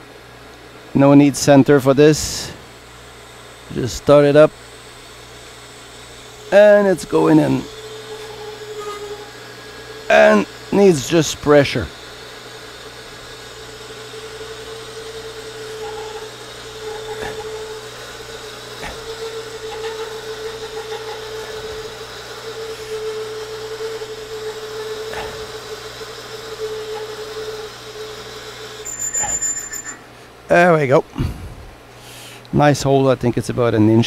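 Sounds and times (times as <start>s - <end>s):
lathe running: 1.8s - 30.2s
lathe drill cutting metal: 1.9s - 30.1s.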